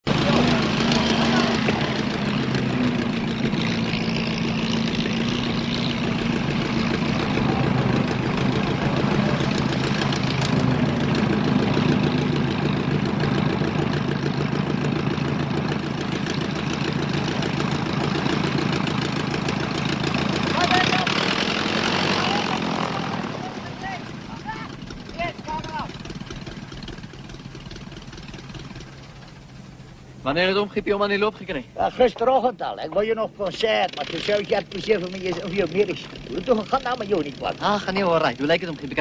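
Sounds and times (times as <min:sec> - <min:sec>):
piston engine running steadily: 0:00.0 - 0:39.0.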